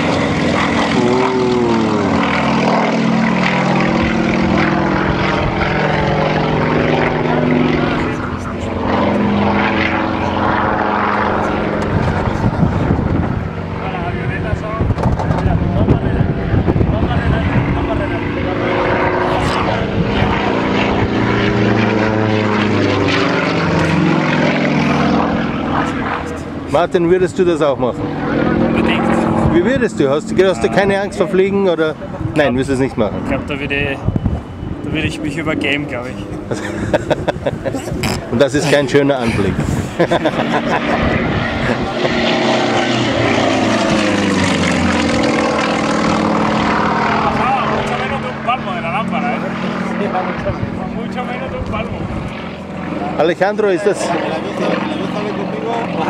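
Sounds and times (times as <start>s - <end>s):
propeller plane flying overhead: 0.0s - 56.0s.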